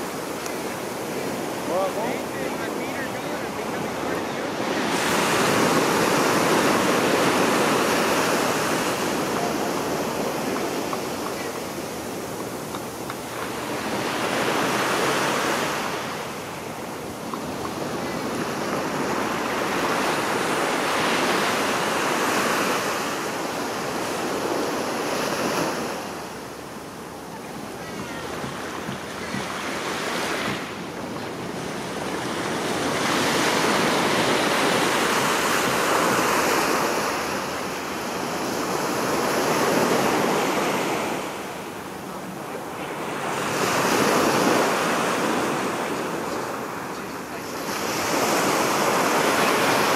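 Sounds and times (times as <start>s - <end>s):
waves breaking on sandy beach: 0.0s - 49.9s.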